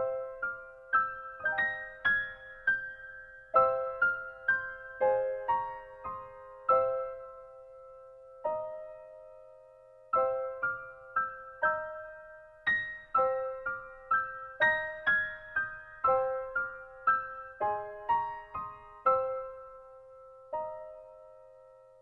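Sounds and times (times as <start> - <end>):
slow solo piano melody: 0.0 - 22.0.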